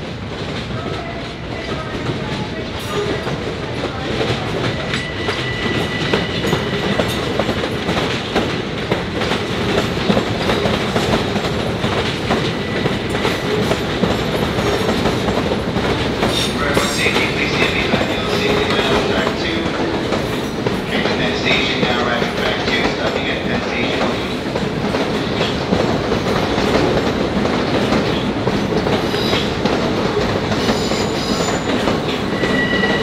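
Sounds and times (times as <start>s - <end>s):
train wheels clattering over rail joints: 0.0s - 33.0s.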